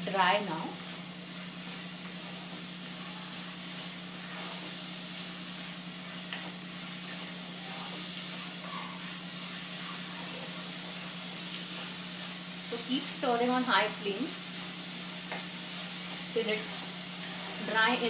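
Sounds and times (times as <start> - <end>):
gentle sizzle in a pan: 0.0 - 18.0.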